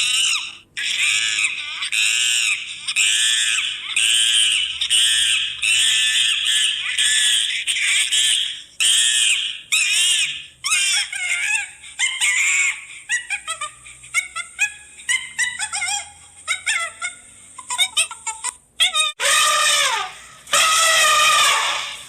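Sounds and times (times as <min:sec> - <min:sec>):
animal high-pitched calls: 0:00.0 - 0:18.0, 0:18.8 - 0:22.0.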